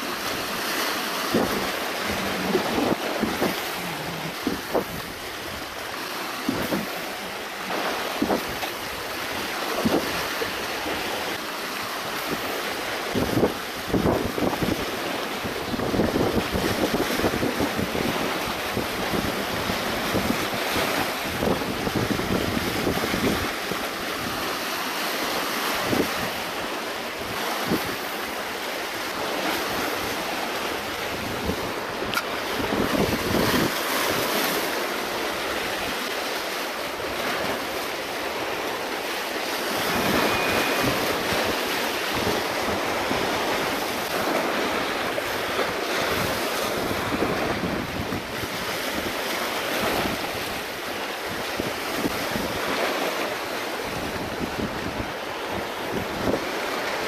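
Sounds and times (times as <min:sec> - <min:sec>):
wind buffeting microphone: 0:00.0 - 0:36.2, 0:36.8 - 0:57.0
waves breaking over rocks: 0:00.0 - 0:57.0.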